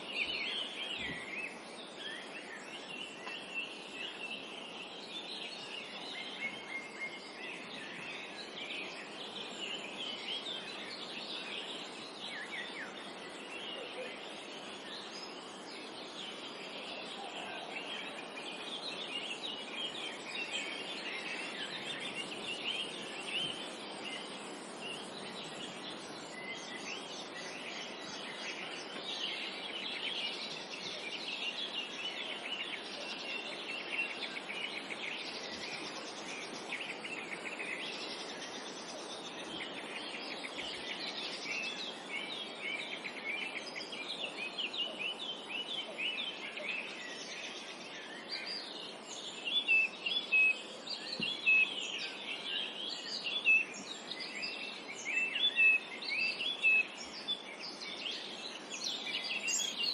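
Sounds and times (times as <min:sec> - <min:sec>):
outdoor ambience hiss: 0:00.0 - 0:59.9
songbirds chirping: 0:00.0 - 0:59.9.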